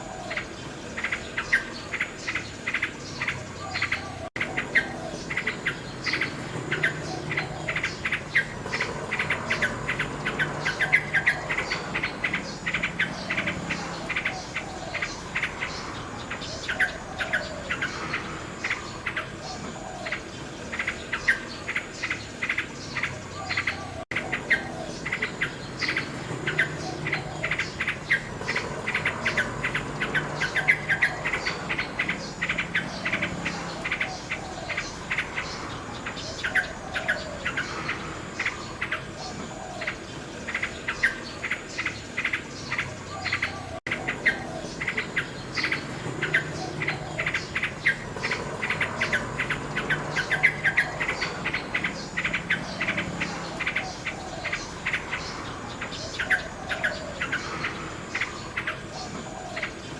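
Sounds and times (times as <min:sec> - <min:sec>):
chorus of bird calls: 0:00.0 - 0:59.9
nightingale singing trills: 0:00.0 - 0:59.9.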